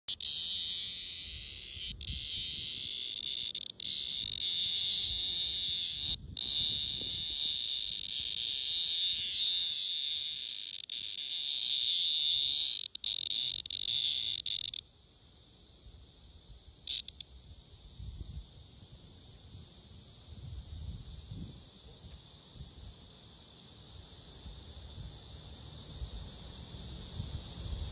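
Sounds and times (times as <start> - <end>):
cicada buzzing: 0.1 - 27.9.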